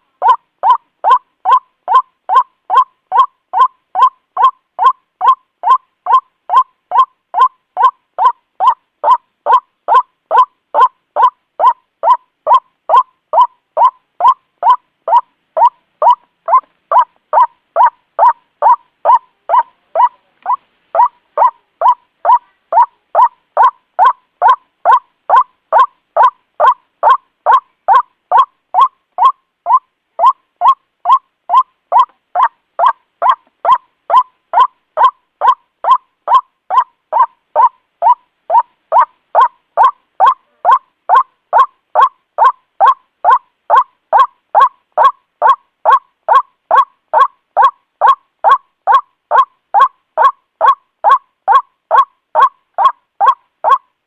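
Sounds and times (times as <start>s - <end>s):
waterhen kwak calls: 0.2s - 53.8s.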